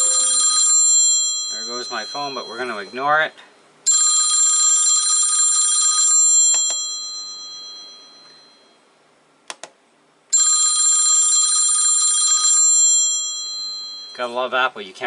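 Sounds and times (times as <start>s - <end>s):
phone ringtone: 0.0s - 3.2s, 3.9s - 8.8s, 10.4s - 14.4s.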